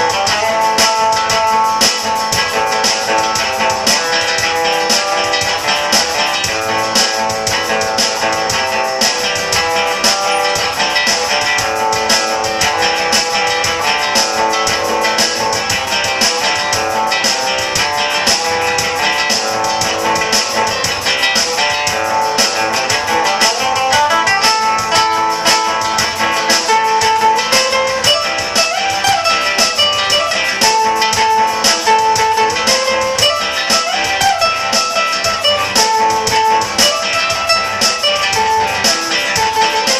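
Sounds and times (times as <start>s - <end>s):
strummed string instruments: 0.0s - 39.9s.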